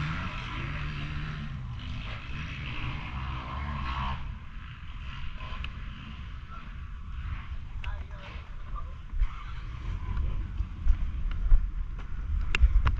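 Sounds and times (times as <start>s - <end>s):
motocross bike engine revving: 0.0s - 12.7s.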